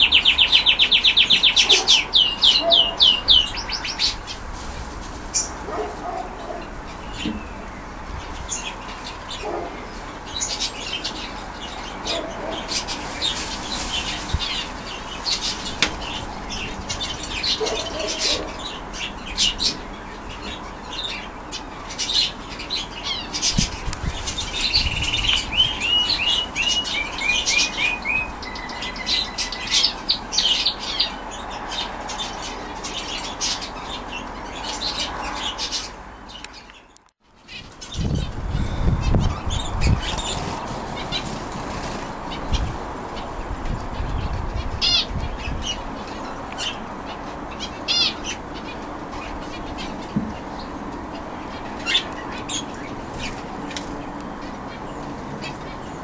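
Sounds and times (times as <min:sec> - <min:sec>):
canaries singing and chirping: 0:00.0 - 0:56.0.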